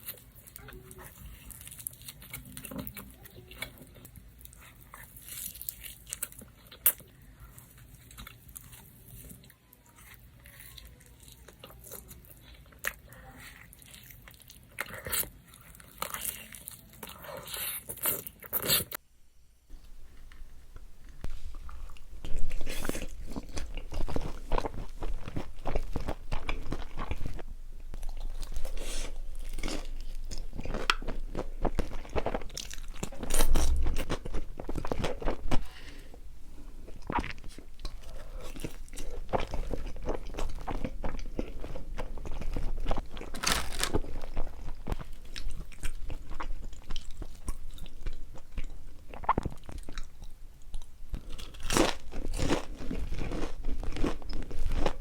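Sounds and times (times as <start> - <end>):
chewing and crunching food: 0.0 - 19.0, 19.8 - 55.0.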